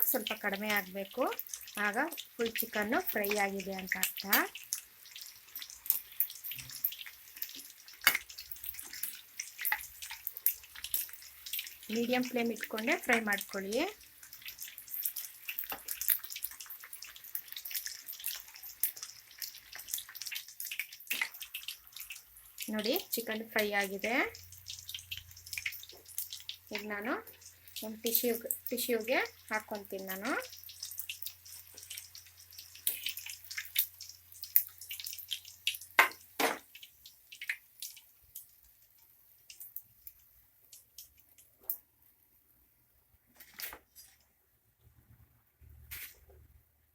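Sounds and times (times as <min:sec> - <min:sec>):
oil crackling and popping: 0:00.0 - 0:42.1
chicken deep-frying in hot oil: 0:00.0 - 0:46.9.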